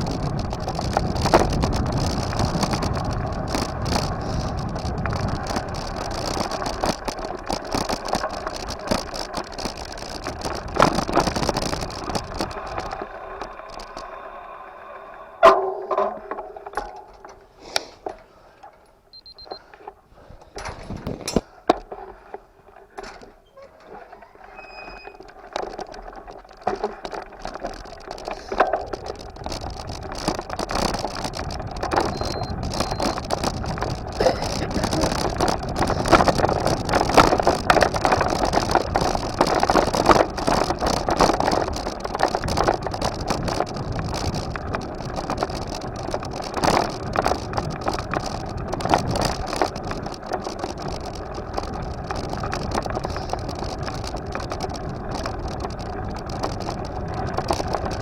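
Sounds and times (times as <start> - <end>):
small clicks: 0.0 - 14.2, 16.3 - 58.0
bike tyres rumbling and rattling: 0.0 - 58.0.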